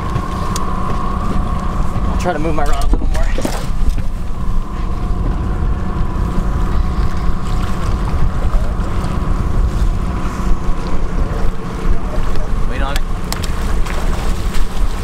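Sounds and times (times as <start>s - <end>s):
boat motor running: 0.0s - 15.0s
faint steady whine: 0.0s - 15.0s
wind on microphone: 0.0s - 15.0s.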